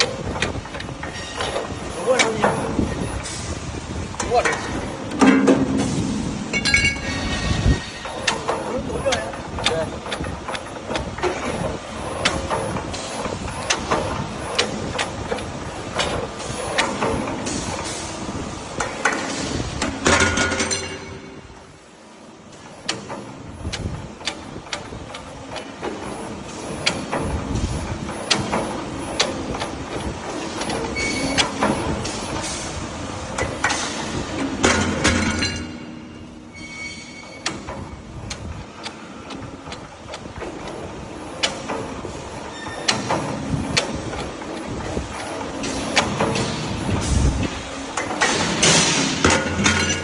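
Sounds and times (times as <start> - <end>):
bending machine clanking: 0.0 - 50.0.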